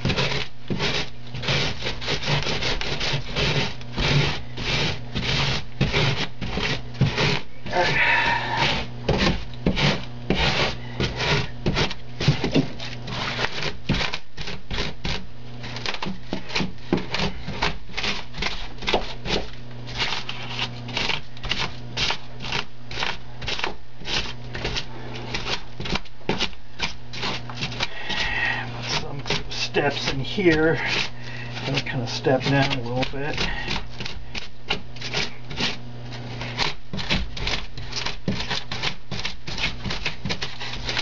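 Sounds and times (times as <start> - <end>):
scratchy scraping of foam: 0.0 - 41.0
steady low hum: 0.0 - 41.0.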